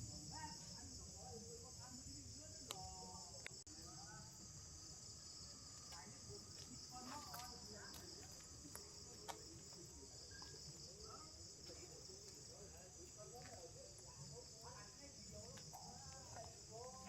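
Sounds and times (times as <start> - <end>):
crickets and insects chorus: 0.0 - 17.0.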